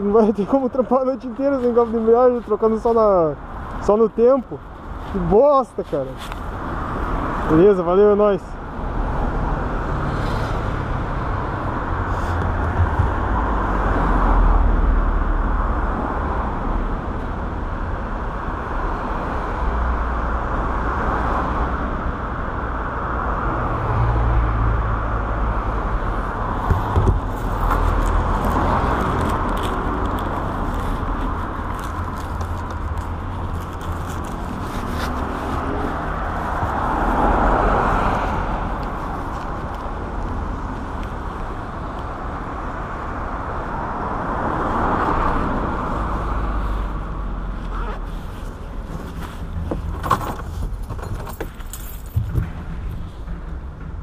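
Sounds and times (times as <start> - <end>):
motorcycle and traffic rumble: 0.0 - 54.0.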